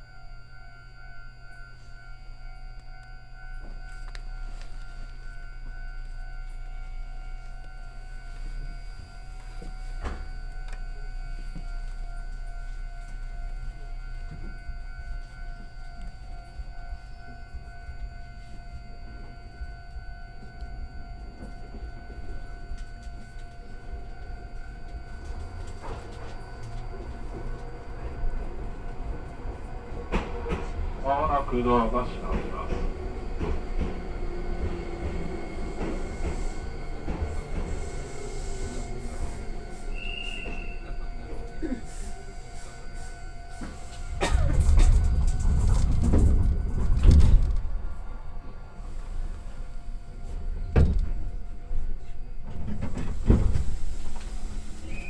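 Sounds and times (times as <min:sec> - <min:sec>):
electrical hum: 0:00.0 - 0:55.0
train low rumble: 0:00.0 - 0:55.0.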